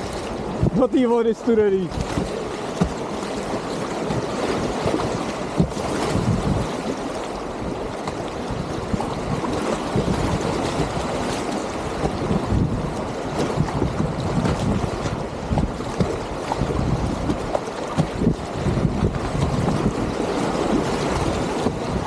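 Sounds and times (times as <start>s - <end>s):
whitewater rushing and splashing: 0.0s - 22.0s
wind noise on microphone: 0.0s - 22.0s.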